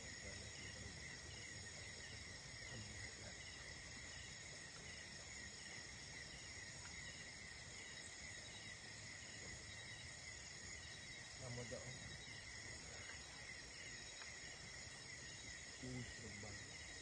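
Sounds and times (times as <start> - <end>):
insect chorus trilling: 0.0 - 17.0.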